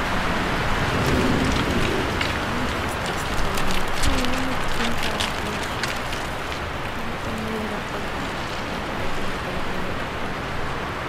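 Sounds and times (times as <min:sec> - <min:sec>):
rain falling on foliage: 0:00.0 - 0:11.0.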